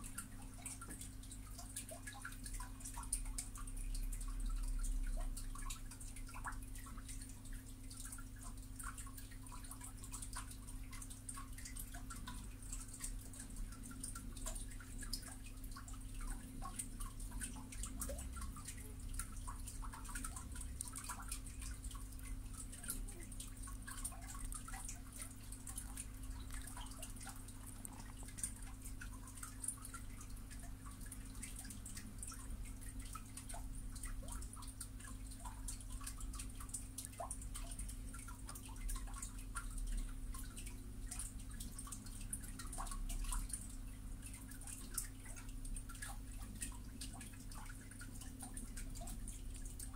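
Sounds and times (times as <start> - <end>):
low electrical hum: 0.0 - 49.9
small ticks and clicks: 0.0 - 49.9.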